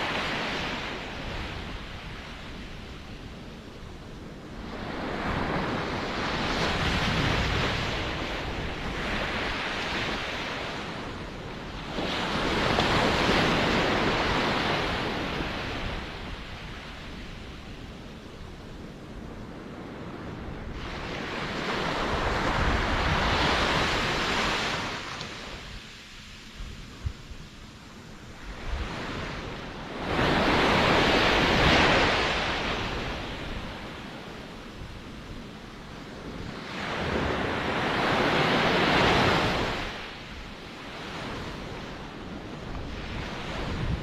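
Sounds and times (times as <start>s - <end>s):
ocean waves: 0.0s - 44.0s.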